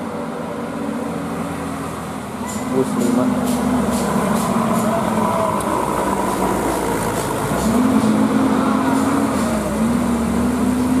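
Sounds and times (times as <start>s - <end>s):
bus engine pulling uphill: 0.0s - 11.0s.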